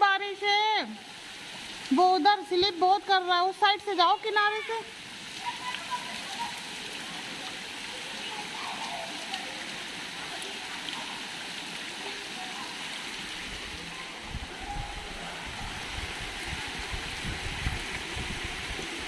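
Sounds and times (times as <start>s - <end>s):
heavy rain: 0.0s - 19.0s
running water: 0.0s - 19.0s.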